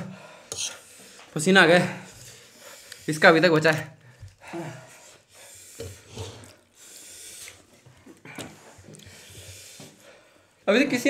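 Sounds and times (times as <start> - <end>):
person panting and sniffing: 0.0 - 3.2, 4.0 - 10.6.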